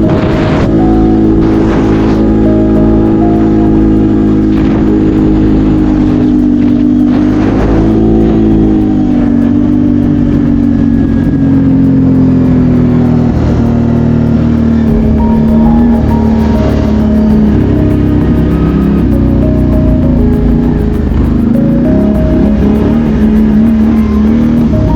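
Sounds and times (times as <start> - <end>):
quad engine running: 0.0 - 24.9.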